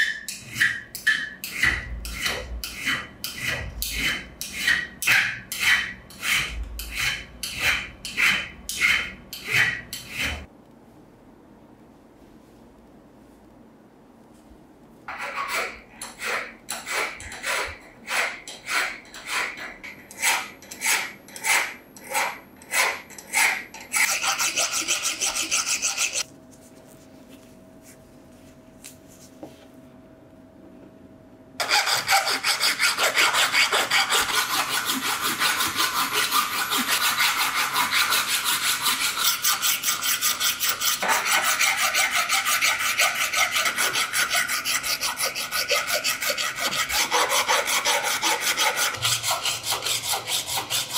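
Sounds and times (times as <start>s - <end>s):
metal filing on hand file: 0.0s - 10.5s, 15.1s - 26.2s, 31.6s - 50.9s.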